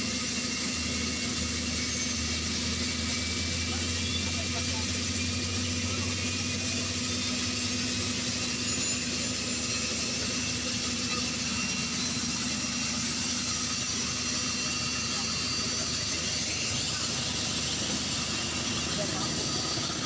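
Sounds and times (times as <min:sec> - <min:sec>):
helicopter turbine engines whining: 0:00.0 - 0:20.0.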